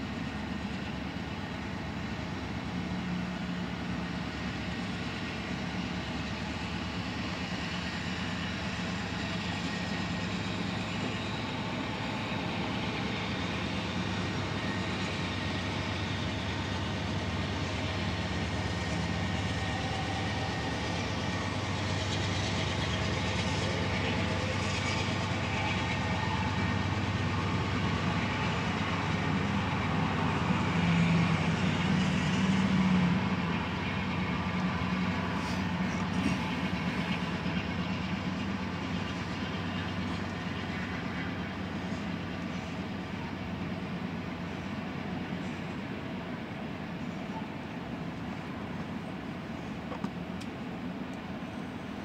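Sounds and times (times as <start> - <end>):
diesel locomotives droning: 0.0 - 52.0
freight cars rolling on rails: 0.0 - 52.0.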